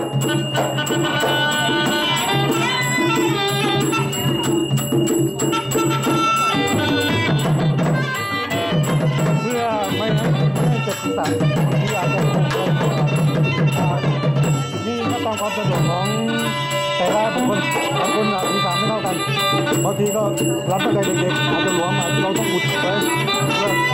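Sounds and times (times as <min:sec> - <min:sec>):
fast driving drums: 0:00.0 - 0:23.9
wavering oboe melody: 0:00.0 - 0:23.9.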